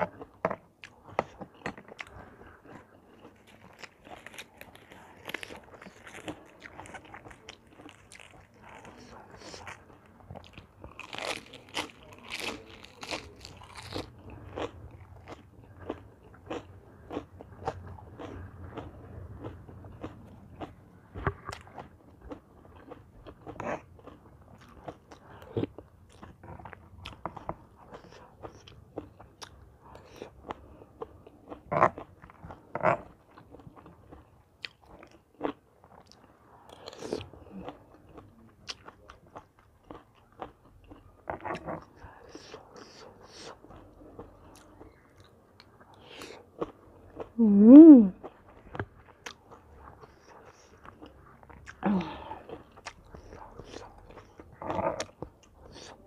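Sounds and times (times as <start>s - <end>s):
crunching and chewing lettuce: 0.0s - 47.5s, 48.2s - 56.0s.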